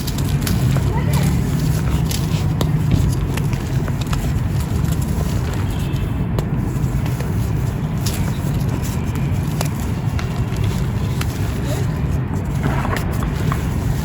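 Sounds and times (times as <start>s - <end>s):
gritty powder crunching: 0.0s - 14.0s.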